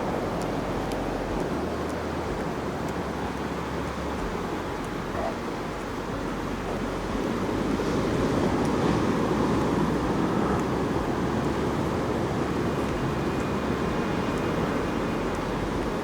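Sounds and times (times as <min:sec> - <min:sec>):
surf washing onto beach: 0:00.0 - 0:16.0
wind on microphone: 0:00.0 - 0:16.0.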